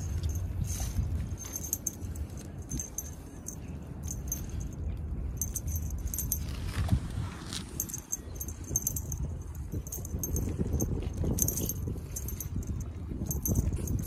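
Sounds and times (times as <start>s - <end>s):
small jingle bell tinkling: 0.0s - 6.5s, 7.7s - 14.0s
low steady rumble: 0.0s - 14.0s.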